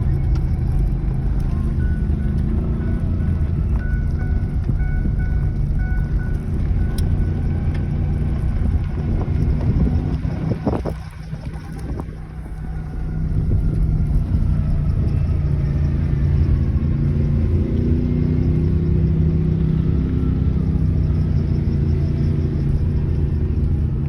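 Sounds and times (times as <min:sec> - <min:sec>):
vehicle engine rumble from inside cab: 0:00.0 - 0:24.0.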